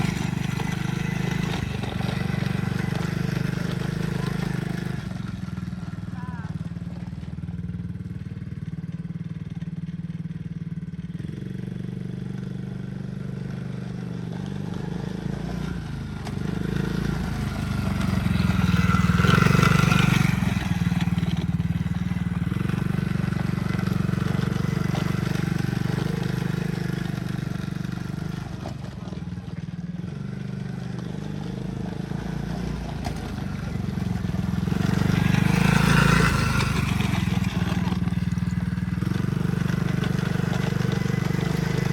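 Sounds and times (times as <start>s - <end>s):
small engine running: 0.0s - 41.9s.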